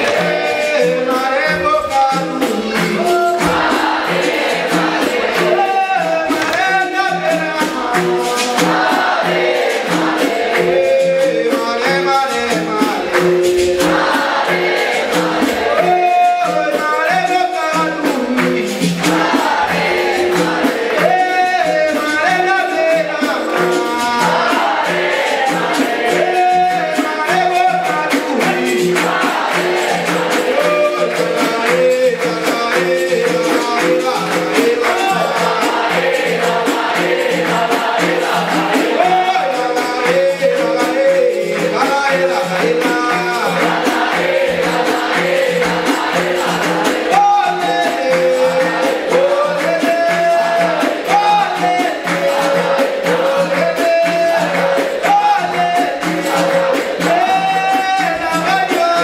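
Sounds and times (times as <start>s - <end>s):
group of voices singing: 0.0s - 59.0s
hand clapping: 0.0s - 59.0s
hand drum: 0.0s - 59.0s
pandeiro: 0.0s - 59.0s.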